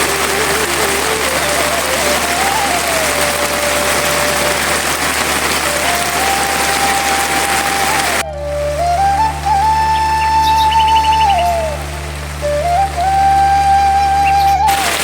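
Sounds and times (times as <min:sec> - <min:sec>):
heavy rain: 0:00.0 - 0:15.0
slow flute melody: 0:00.0 - 0:15.0.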